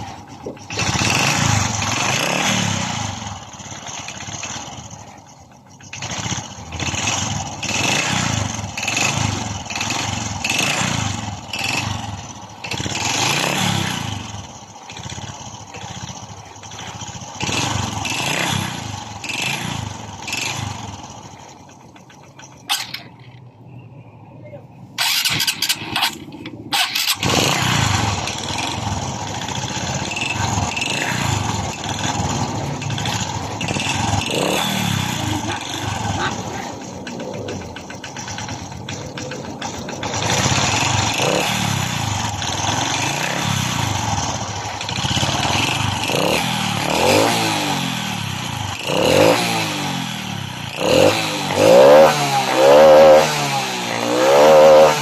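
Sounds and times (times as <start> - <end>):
engine knocking: 0.0 - 23.6, 25.0 - 53.4
engine cranking: 0.0 - 23.8, 24.9 - 55.0
motorcycle engine revving: 0.0 - 55.0.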